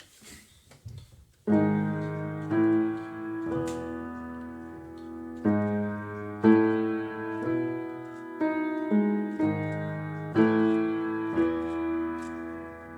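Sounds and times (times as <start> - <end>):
piano chords: 1.5 - 12.9.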